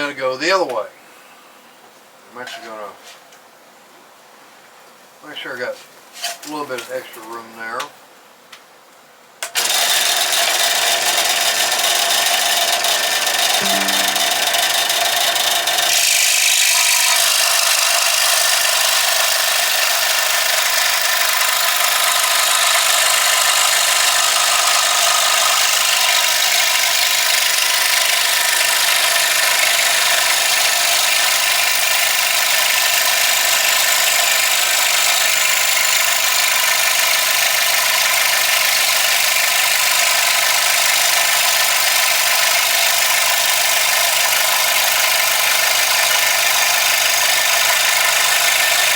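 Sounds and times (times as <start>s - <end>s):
scroll saw cutting wood: 9.4s - 48.9s.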